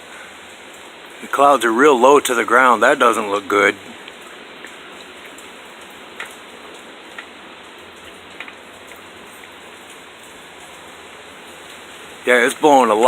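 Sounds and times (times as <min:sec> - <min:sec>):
rain hissing: 0:00.0 - 0:13.0
raindrops tapping: 0:00.0 - 0:13.0.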